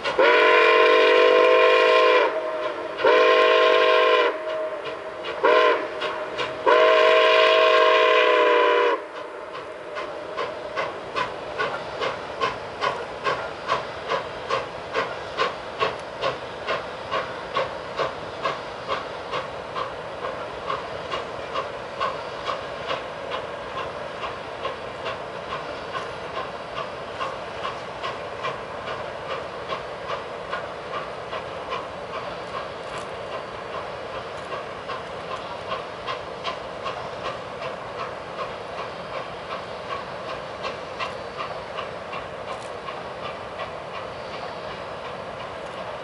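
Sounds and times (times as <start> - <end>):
rumble of moving train: 0.0 - 46.0
steam locomotive exhaust chuffing: 0.0 - 46.0.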